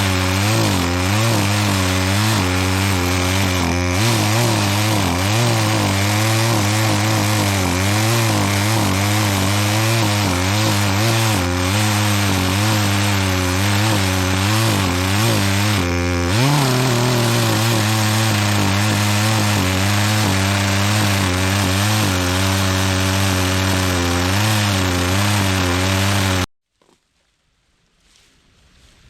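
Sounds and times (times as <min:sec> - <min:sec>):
chainsaw cutting wood: 0:00.0 - 0:26.5.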